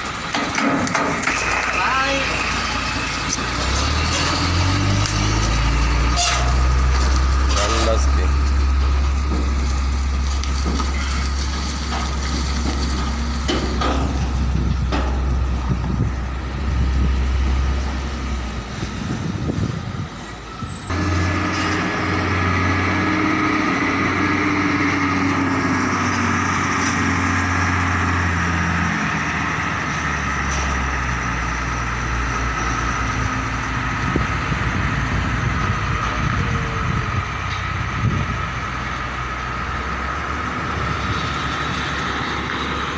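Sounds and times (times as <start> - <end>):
diesel truck engine low hum: 0.0 - 42.9.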